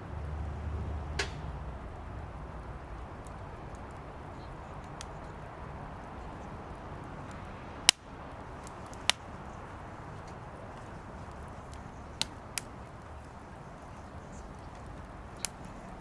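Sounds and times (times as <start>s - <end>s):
wood popping and crackling: 1.0s - 16.0s.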